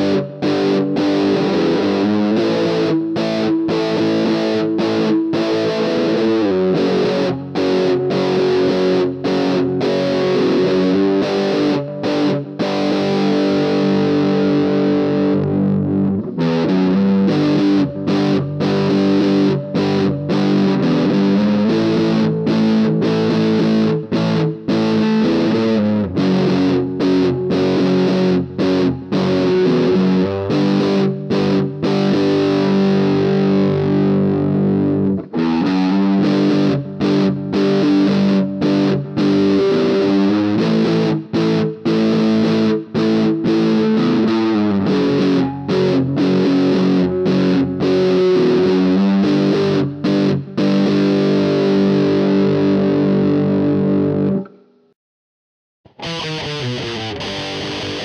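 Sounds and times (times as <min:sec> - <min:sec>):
overdriven electric guitar chords: 0:00.0 - 0:54.9, 0:55.9 - 0:58.0.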